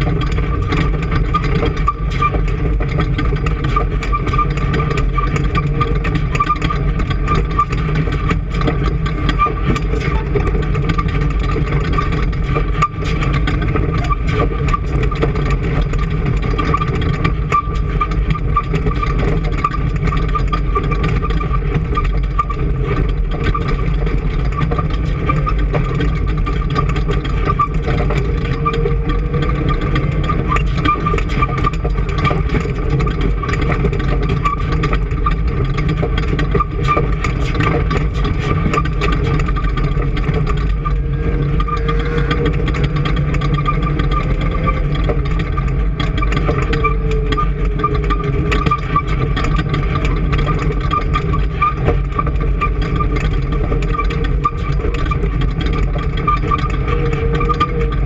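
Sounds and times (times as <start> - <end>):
engine running with high whine: 0.0 - 58.0.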